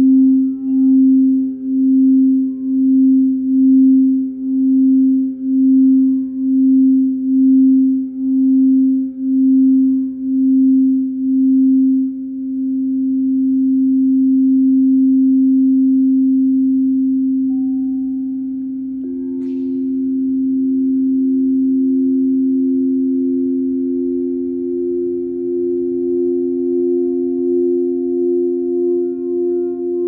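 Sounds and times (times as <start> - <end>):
singing bowl low tone: 0.0 - 30.0.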